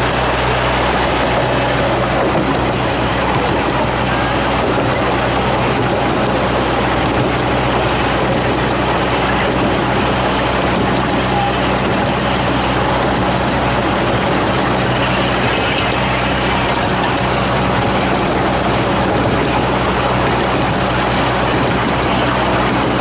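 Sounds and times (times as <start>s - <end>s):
small train rolling on track: 0.0s - 23.0s.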